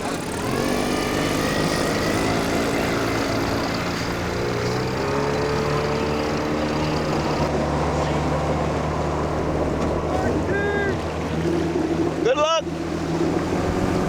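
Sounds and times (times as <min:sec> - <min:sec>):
outboard boat motor running: 0:00.0 - 0:14.0.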